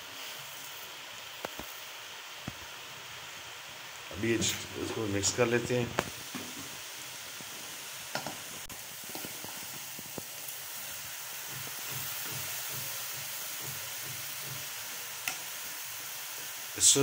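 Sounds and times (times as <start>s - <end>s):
carrots sizzling in hot ghee: 0.0s - 17.0s.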